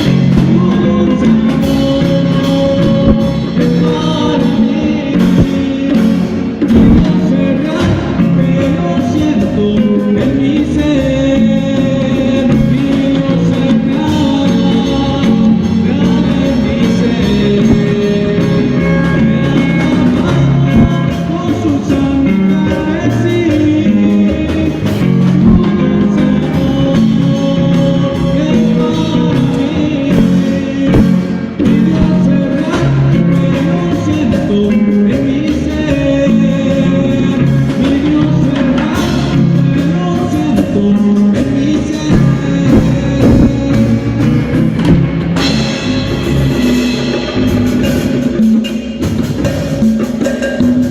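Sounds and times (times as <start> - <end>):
live band playing: 0.0 - 50.9
person singing: 0.0 - 50.9.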